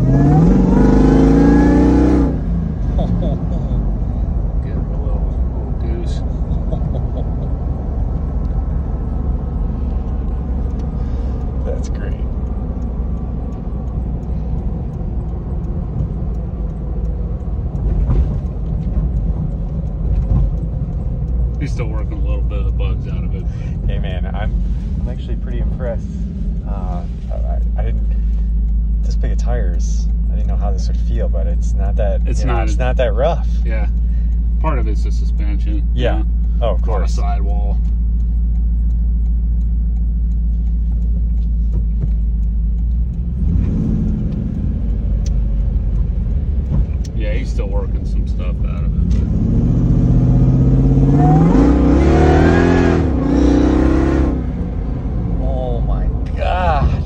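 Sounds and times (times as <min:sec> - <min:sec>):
engine rumble and road noise: 0:00.0 - 0:57.0.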